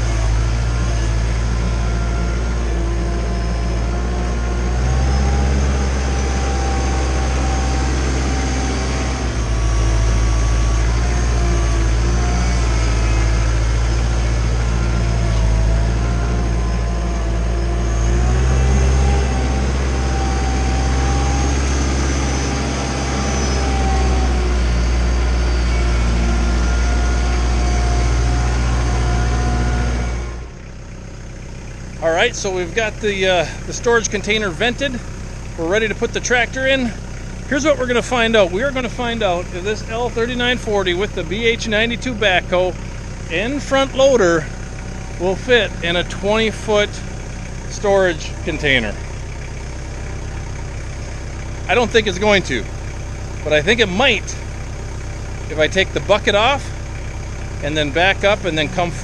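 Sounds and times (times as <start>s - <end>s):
tractor diesel engine working: 0.0s - 59.0s.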